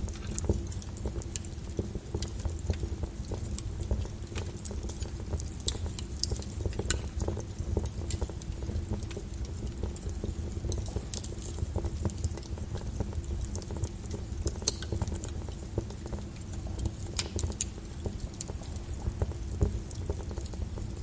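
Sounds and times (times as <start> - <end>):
fire flames rumbling: 0.0 - 21.0
wood fire crackling and popping: 0.0 - 21.0.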